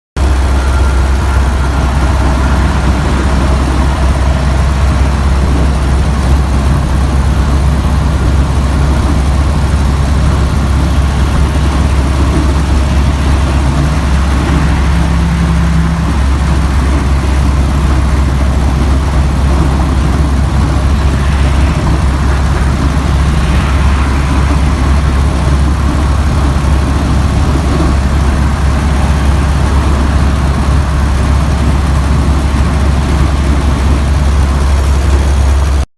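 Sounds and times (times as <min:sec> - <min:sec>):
car engine running steadily: 0:00.2 - 0:35.8.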